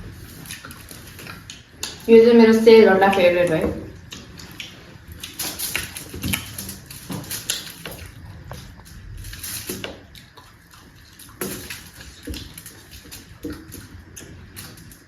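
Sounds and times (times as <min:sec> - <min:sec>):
wet chewing and mouth smacks: 0:00.2 - 0:02.1, 0:03.9 - 0:15.0.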